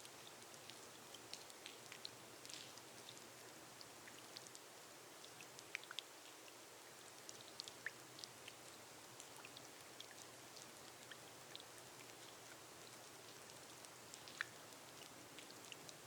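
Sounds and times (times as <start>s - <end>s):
rain on a glass roof: 0.0s - 16.0s.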